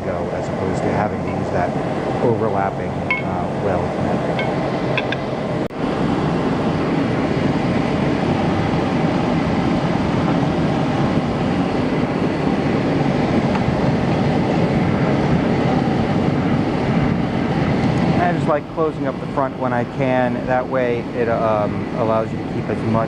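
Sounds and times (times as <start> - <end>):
forge burner rumbling: 0.0 - 23.0.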